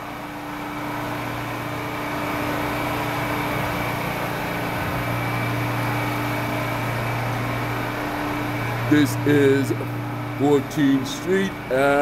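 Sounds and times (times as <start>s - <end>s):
subway train electric hum: 0.0s - 12.0s.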